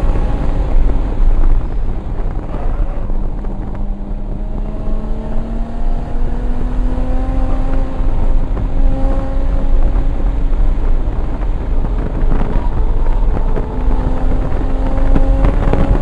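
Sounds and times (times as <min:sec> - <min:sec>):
car engine accelerating: 0:00.0 - 0:16.0
wind and road noise: 0:00.0 - 0:16.0.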